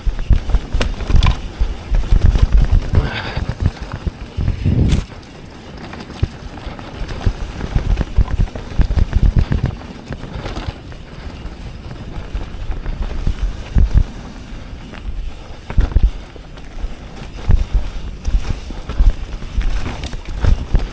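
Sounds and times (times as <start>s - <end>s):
wind on microphone: 0.0s - 5.5s, 6.2s - 20.9s
mountain bike rattling over trail: 0.0s - 20.9s.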